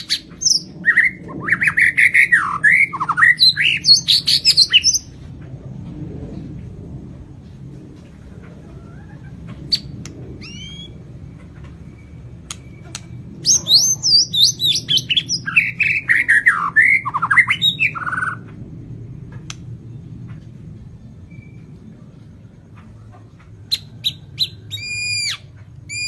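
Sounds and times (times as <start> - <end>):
bird singing: 0.0 - 5.2, 8.5 - 18.6, 19.4 - 26.0
low hum: 0.0 - 24.8.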